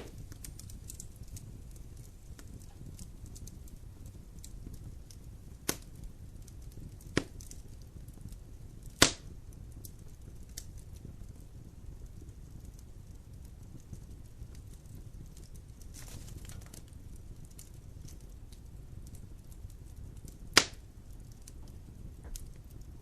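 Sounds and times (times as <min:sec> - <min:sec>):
sharp pops of fire: 0:00.0 - 0:23.0
wood fire crackling: 0:00.0 - 0:23.0.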